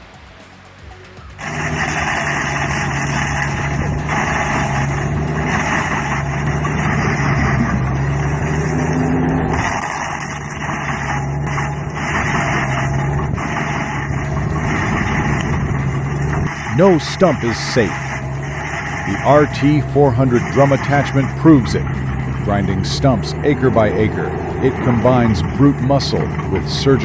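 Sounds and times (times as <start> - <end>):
heavy machine engine under load: 0.0 - 27.0
rushing grinding noise: 0.0 - 27.0.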